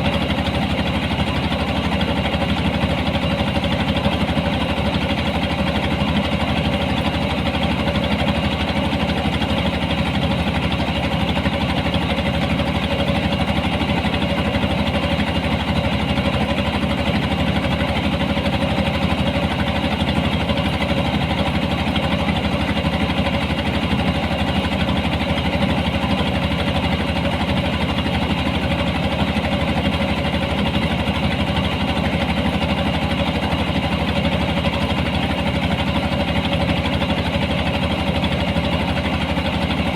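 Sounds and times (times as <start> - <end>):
harvesting machine engine running: 0.0 - 39.9.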